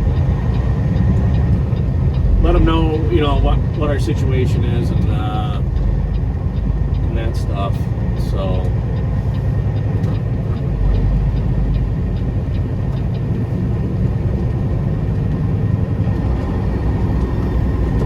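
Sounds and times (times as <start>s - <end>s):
diesel truck engine rumble: 0.0s - 18.0s
road noise: 0.0s - 18.0s.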